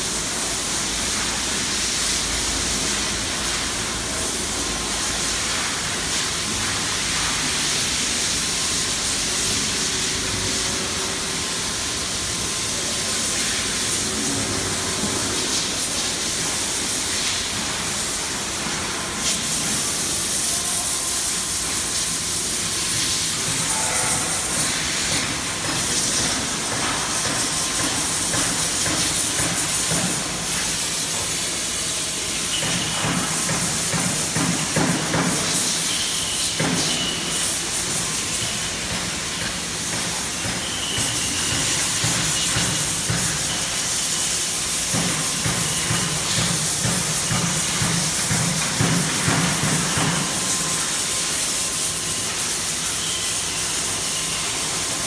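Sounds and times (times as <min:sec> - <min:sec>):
cnc router hiss: 0:00.0 - 0:55.0.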